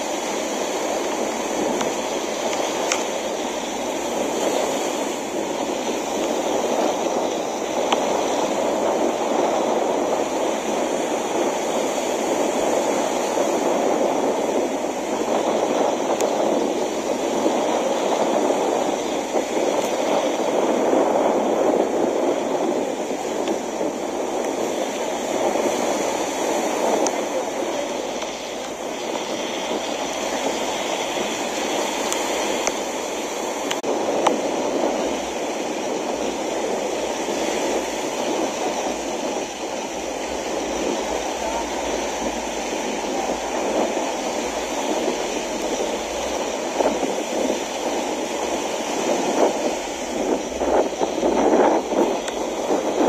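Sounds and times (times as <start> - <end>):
small waves washing on sand: 0.0 - 53.0
wind: 0.0 - 53.0.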